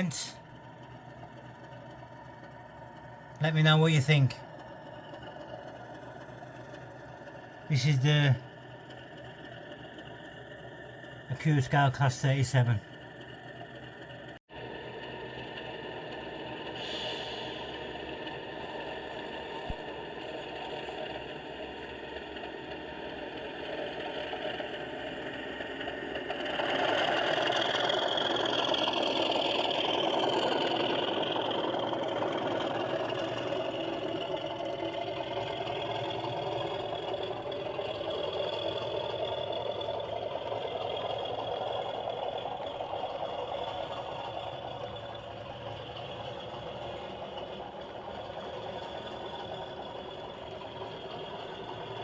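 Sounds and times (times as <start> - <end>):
model locomotive running: 0.0 - 52.0.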